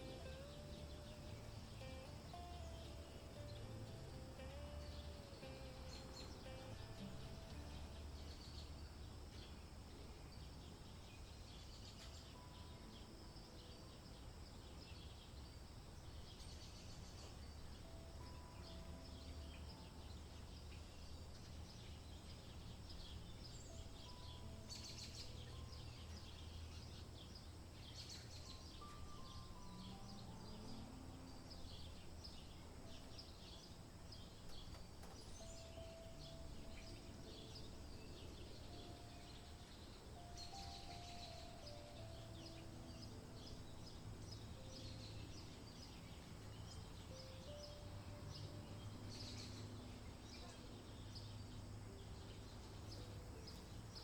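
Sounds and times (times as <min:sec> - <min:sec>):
bird chirps: 0:00.0 - 0:54.0.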